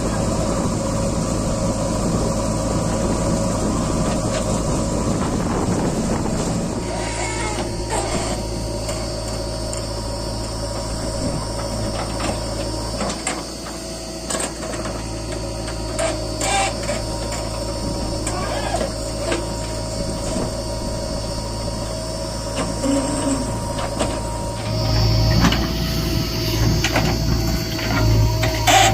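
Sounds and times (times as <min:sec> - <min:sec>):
diesel engine humming and whining: 0:00.0 - 0:28.9.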